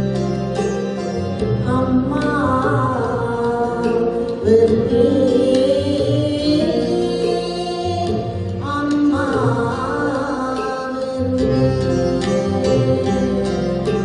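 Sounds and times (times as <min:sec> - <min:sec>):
instrumental accompaniment with beat: 0:00.0 - 0:14.0
woman singing into a microphone: 0:01.6 - 0:14.0.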